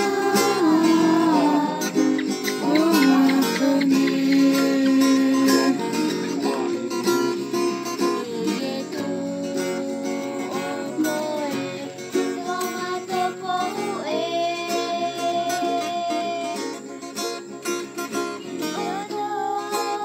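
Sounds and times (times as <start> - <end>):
acoustic guitar strumming: 0.0 - 20.0
person singing slow melody: 0.0 - 20.0.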